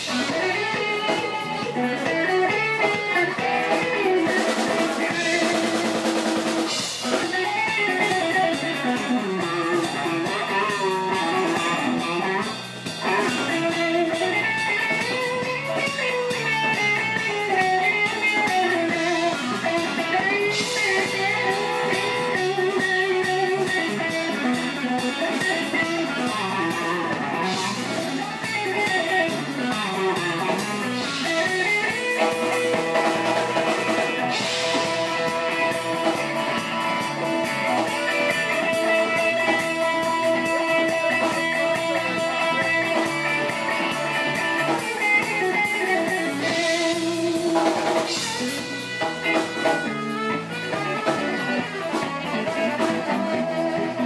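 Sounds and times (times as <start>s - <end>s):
bass and drums: 0.0s - 54.0s
electric guitar solo: 0.0s - 54.0s.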